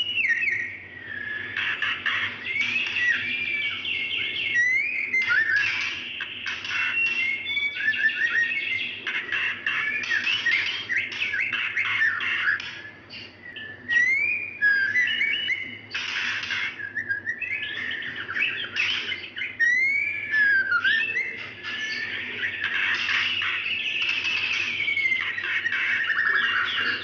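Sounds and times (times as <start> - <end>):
bird whistles and chirps: 0.0 - 27.0.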